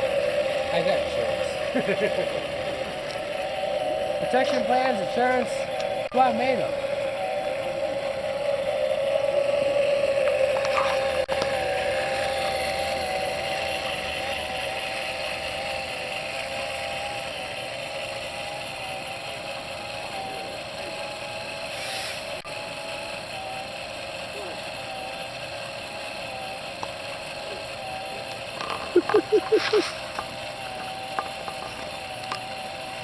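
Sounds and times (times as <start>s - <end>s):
electric motor whining: 0.0s - 33.0s
whirling flame hissing: 0.0s - 33.0s.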